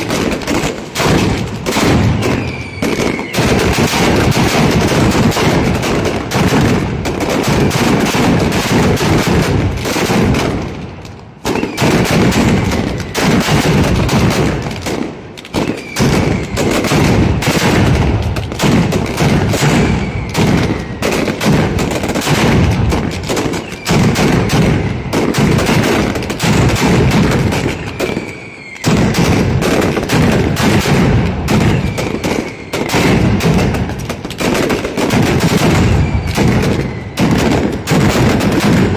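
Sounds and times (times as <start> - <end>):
firecrackers banging rapidly: 0.0 - 38.9.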